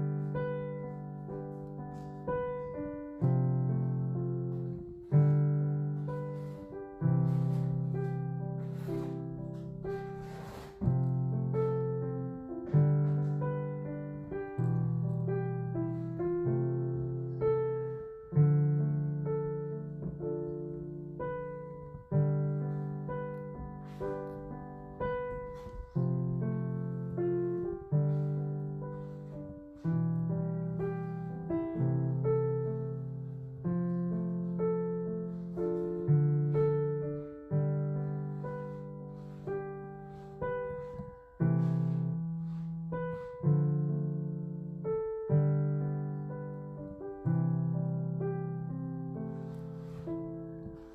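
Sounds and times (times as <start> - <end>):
gentle piano chords: 0.0 - 50.9.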